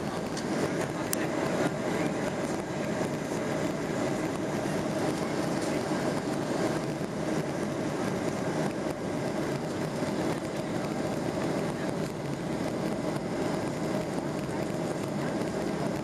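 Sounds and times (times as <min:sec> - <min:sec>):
jet engines in cabin: 0:00.0 - 0:16.0
rushing airflow: 0:00.0 - 0:16.0
steady cabin hum: 0:00.0 - 0:16.0.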